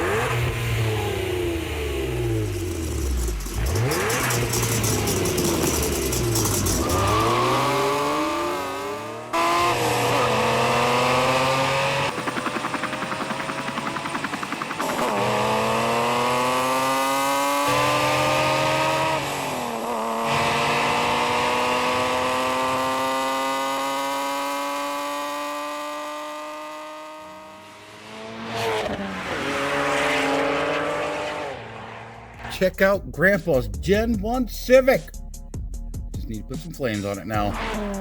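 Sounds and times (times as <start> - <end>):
race car engine accelerating: 0.0 - 32.8, 36.3 - 38.0.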